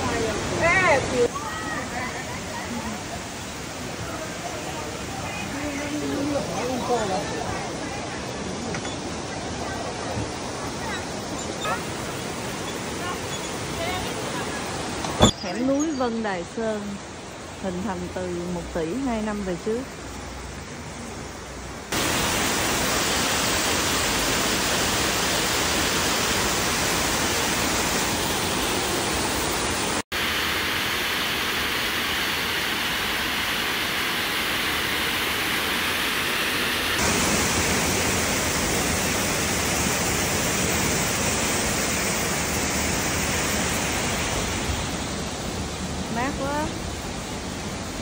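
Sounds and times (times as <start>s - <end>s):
stream and waterfall rushing: 0.0s - 48.0s.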